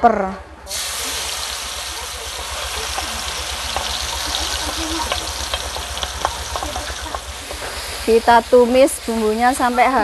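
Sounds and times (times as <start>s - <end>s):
spice paste sizzling in oil: 0.7s - 10.0s.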